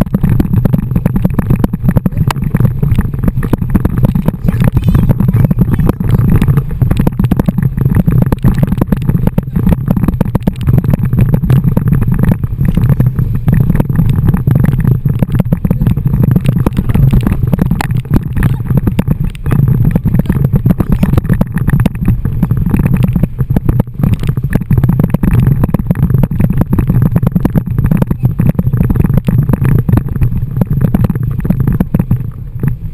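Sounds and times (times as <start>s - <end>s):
water rushing and slapping: 0.0s - 32.9s
wind buffeting microphone: 0.0s - 32.9s.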